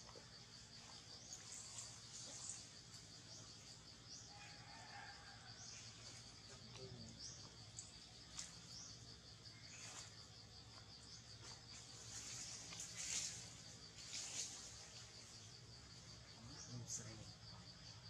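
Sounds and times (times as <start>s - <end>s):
insects pulsing trill: 0.0s - 18.0s.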